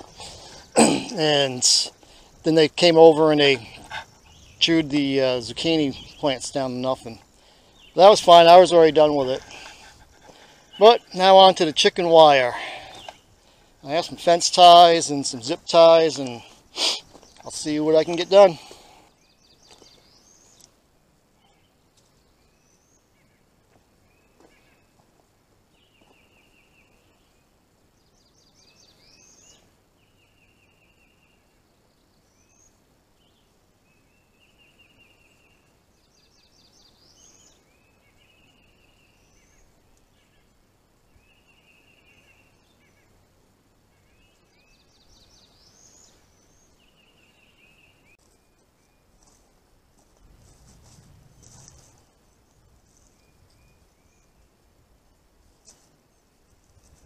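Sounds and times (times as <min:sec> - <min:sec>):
faint birdsong trills: 0:00.0 - 0:49.6, 0:51.4 - 0:57.0.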